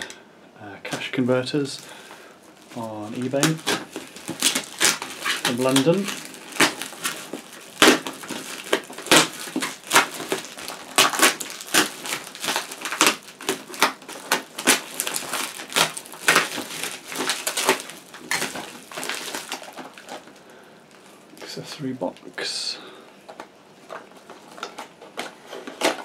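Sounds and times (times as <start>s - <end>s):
plastic wrapping tearing and crackling: 0.9s - 22.4s, 23.2s - 26.0s.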